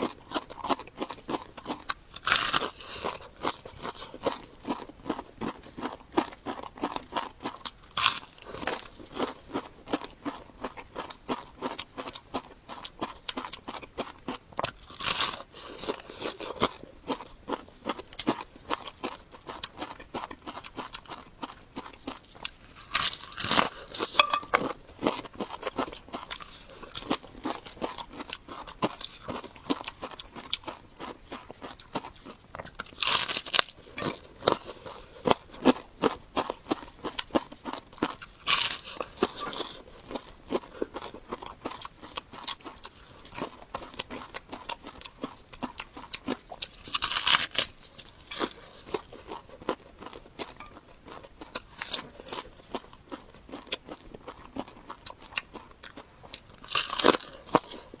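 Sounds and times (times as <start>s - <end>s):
crunching and chewing crispy food: 0.0s - 58.0s.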